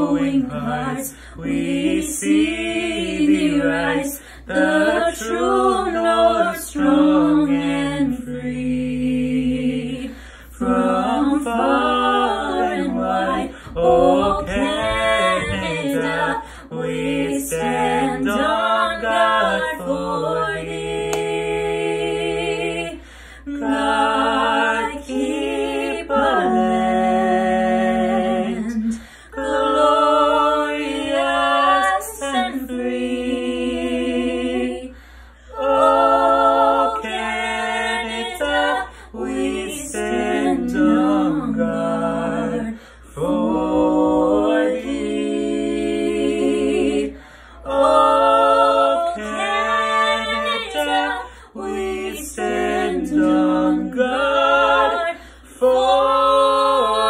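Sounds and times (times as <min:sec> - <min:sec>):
group singing a cappella: 0:00.0 - 0:57.0.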